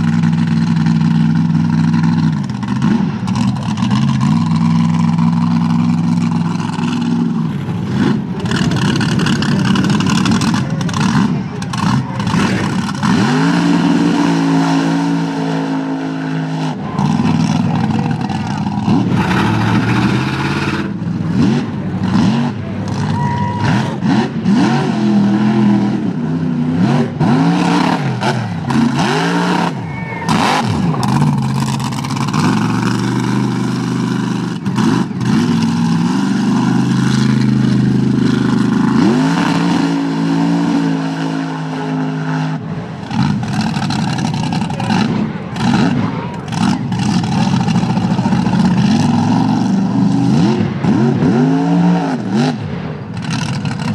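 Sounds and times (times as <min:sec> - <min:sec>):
truck engine revving: 0:00.0 - 0:53.9.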